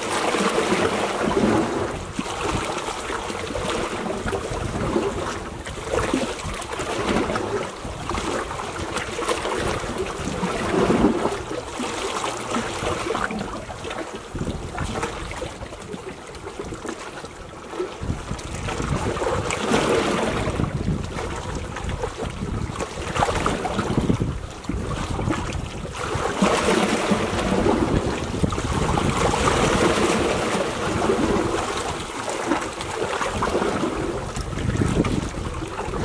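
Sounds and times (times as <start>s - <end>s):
waves lapping on rocky shore: 0.0s - 36.0s
wind rumbling on microphone: 0.0s - 36.0s.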